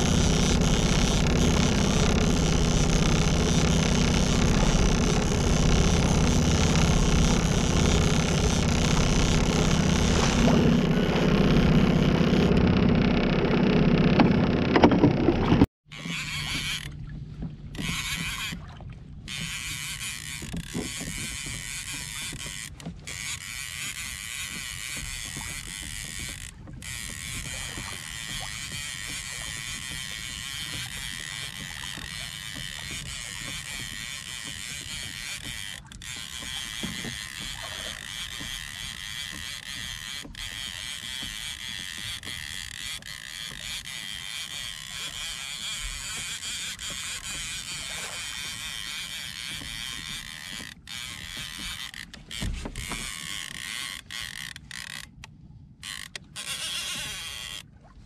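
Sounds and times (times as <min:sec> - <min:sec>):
fishing reel whirring: 0:00.0 - 0:17.1, 0:17.7 - 0:57.9.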